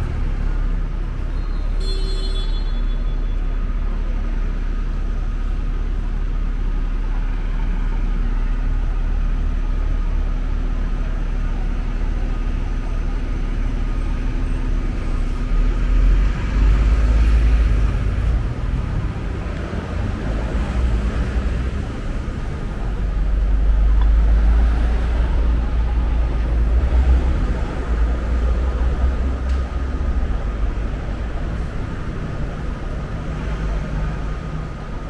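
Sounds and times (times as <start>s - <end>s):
rumble of passing vehicles: 0.0s - 35.0s.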